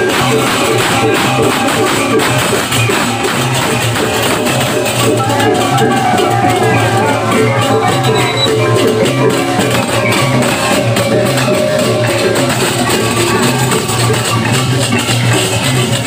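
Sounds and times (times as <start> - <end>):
drums: 0.0 - 16.0
hand cymbals clashing: 0.0 - 16.0
ringing metal tones: 0.0 - 16.0.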